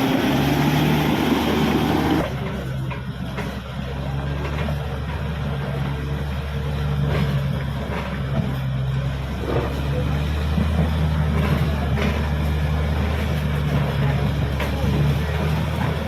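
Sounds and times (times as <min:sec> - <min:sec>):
bulldozer diesel engine under load: 0:00.0 - 0:16.0.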